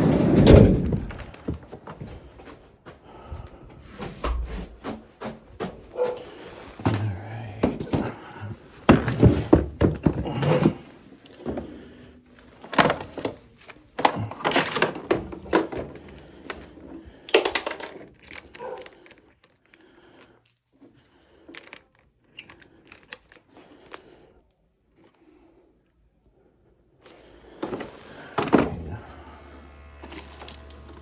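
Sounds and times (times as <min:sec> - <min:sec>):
tools and parts clattering: 0:00.0 - 0:02.6, 0:03.9 - 0:24.1, 0:27.1 - 0:31.0.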